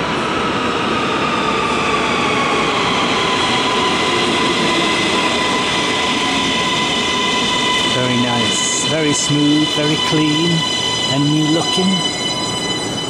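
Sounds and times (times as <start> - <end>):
train braking whine: 0.0 - 13.0
train wheels rumbling on rail: 0.0 - 13.0.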